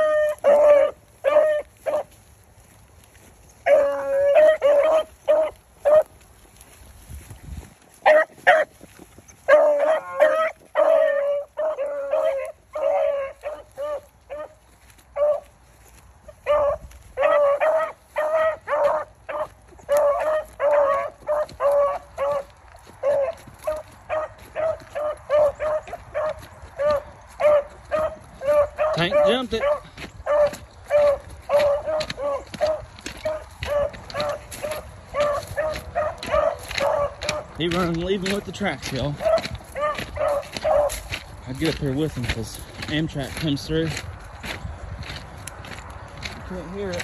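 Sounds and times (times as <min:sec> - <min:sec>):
hounds baying: 0:00.0 - 0:07.1, 0:07.8 - 0:47.0.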